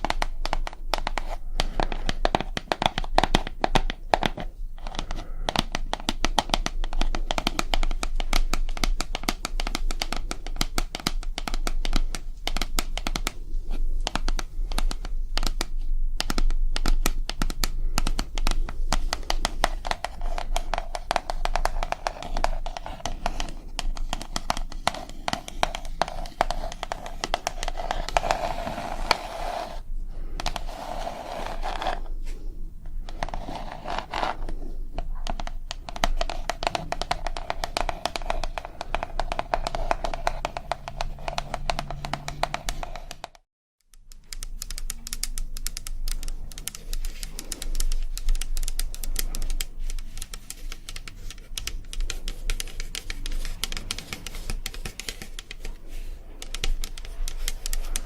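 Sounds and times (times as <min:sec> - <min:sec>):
rapid tapping on hard object: 0:00.0 - 0:29.8, 0:30.4 - 0:32.1, 0:33.0 - 0:43.5, 0:44.1 - 0:58.0.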